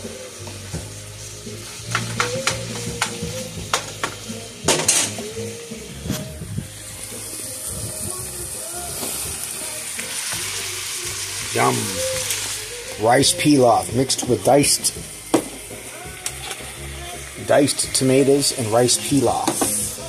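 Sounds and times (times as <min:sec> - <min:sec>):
meat and onions sizzling in pan: 0:00.0 - 0:20.0.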